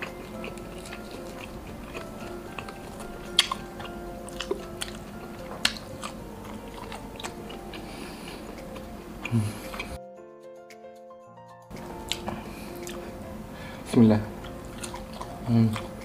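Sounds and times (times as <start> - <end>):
close chewing and biting: 0.0 - 10.0, 11.7 - 13.2, 13.8 - 16.0
quiet background music: 0.0 - 16.0.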